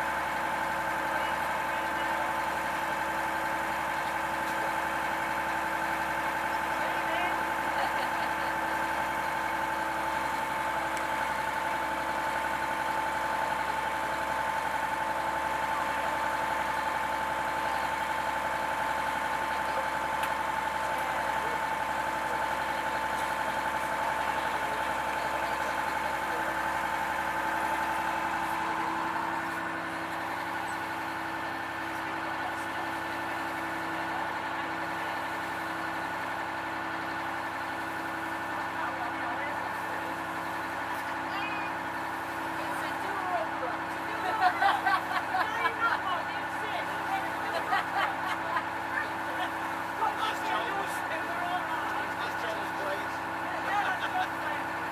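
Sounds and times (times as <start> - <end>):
boat engine humming: 0.0 - 54.9
high engine whine: 0.0 - 54.9.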